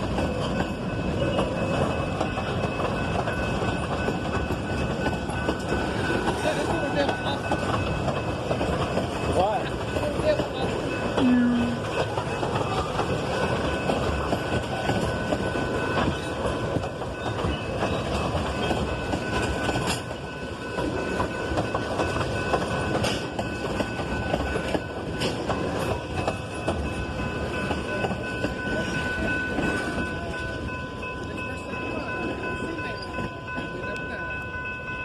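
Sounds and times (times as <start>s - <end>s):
wheels clacking over rail joints: 0.0s - 34.8s
train wheels rumbling on rail: 0.0s - 35.0s.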